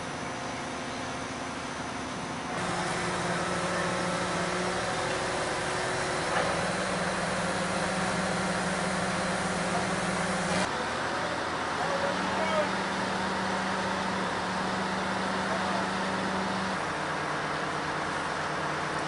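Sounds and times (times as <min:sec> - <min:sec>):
crane engine humming: 0:00.0 - 0:19.0.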